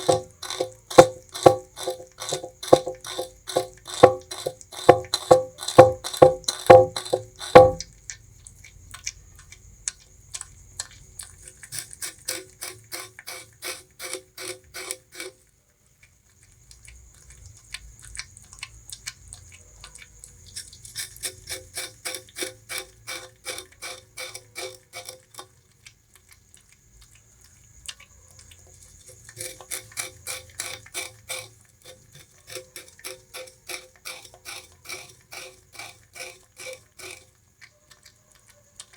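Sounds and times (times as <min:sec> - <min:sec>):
rodent gnawing sugarcane: 0:00.0 - 0:38.9.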